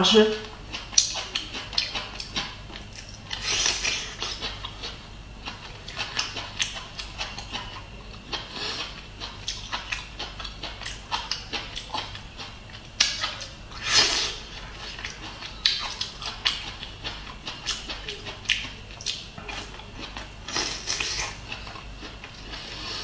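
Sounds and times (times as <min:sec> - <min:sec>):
chewing with wet mouth clicks: 0:00.4 - 0:22.9.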